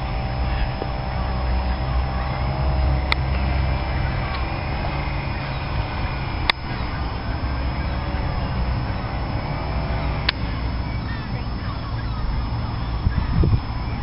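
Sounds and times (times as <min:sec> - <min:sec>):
distant road traffic rumble: 0:00.0 - 0:14.0
sharp clicks: 0:00.0 - 0:14.0.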